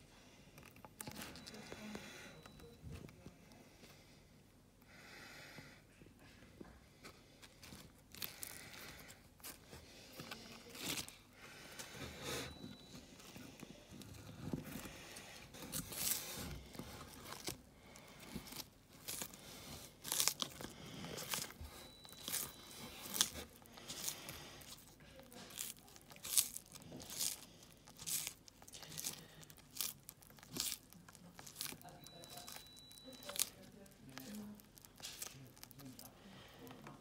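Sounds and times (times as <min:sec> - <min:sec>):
tortoise crunching lettuce: 0:07.2 - 0:37.0.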